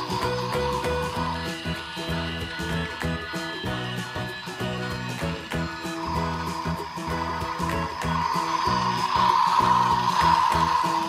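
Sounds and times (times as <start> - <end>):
background music: 0.0 - 11.0
toy train motor whirring: 0.0 - 11.0.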